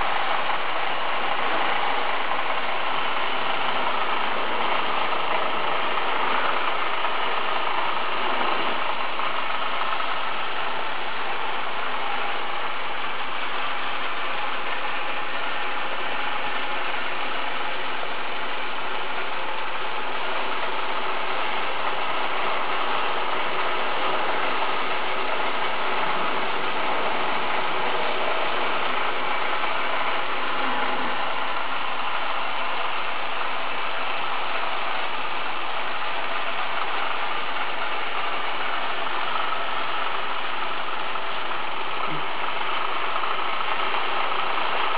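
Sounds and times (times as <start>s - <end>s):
small motors and gears running: 0.0s - 44.9s.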